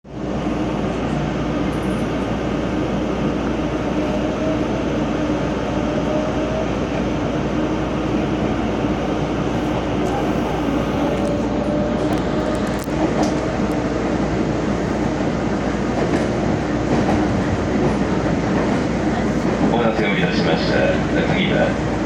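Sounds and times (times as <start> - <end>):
train wheels rumbling: 0.2 - 22.0.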